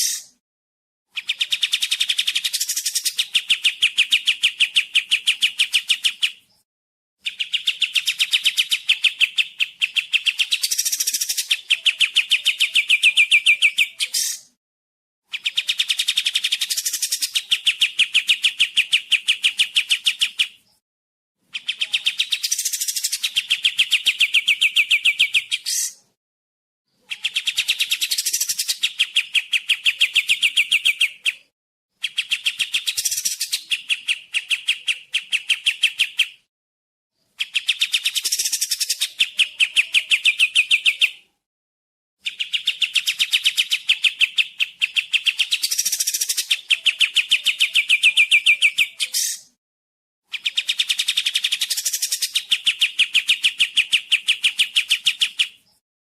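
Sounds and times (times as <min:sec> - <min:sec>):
bird trilling song: 0:00.0 - 0:00.4, 0:01.1 - 0:06.6, 0:07.2 - 0:14.6, 0:15.3 - 0:20.8, 0:21.4 - 0:26.2, 0:26.9 - 0:36.5, 0:37.2 - 0:41.4, 0:42.2 - 0:49.6, 0:50.3 - 0:55.8.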